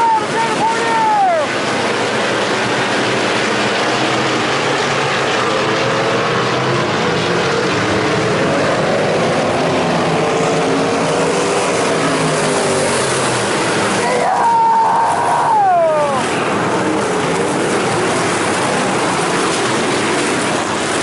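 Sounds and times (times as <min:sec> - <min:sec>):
race car engines roaring: 0:00.0 - 0:21.0.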